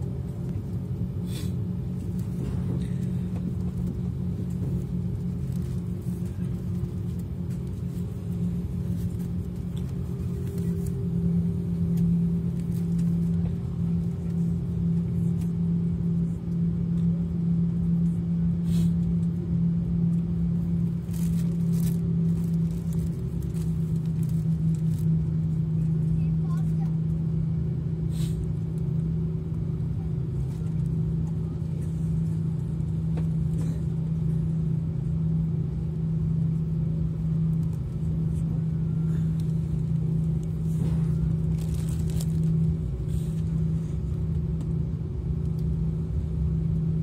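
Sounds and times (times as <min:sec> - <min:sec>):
airliner cabin engine drone: 0:00.0 - 0:47.0.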